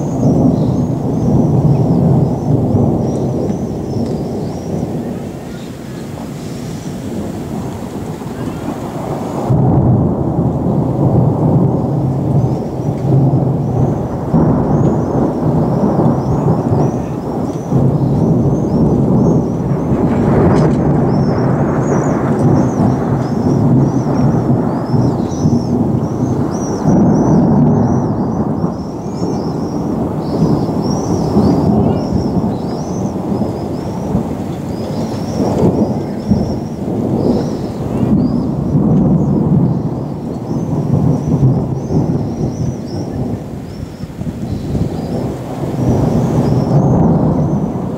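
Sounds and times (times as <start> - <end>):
rain: 0.0 - 47.9
thunder rumbling: 0.0 - 47.9.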